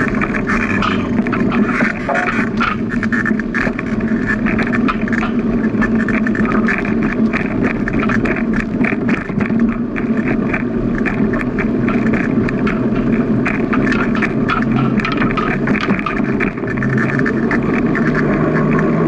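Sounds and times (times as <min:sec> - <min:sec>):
bicycle rattles and clicks: 0:00.0 - 0:19.0
bicycle rolling rumble: 0:00.0 - 0:19.0.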